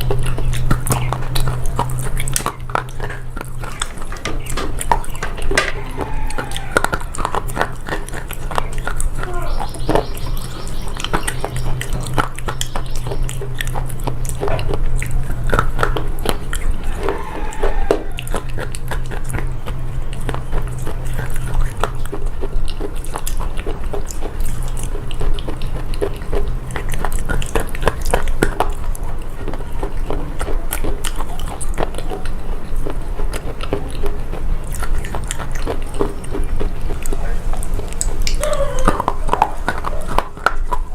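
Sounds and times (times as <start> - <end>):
person crunching chewing: 0.0 - 40.9.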